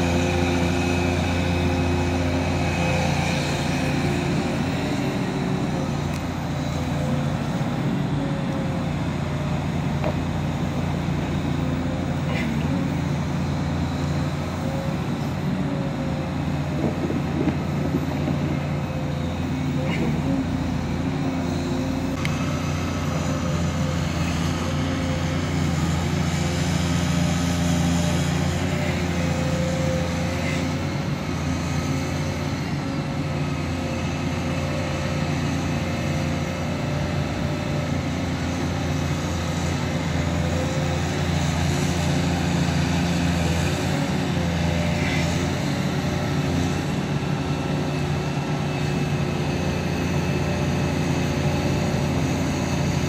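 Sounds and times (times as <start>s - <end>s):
excavator diesel engine running: 0.0s - 53.0s
hydraulics whine: 0.0s - 53.0s.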